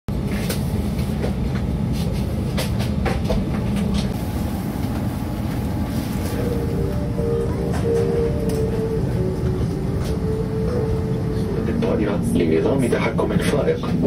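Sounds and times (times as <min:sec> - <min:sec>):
low cabin rumble: 0:00.1 - 0:14.0.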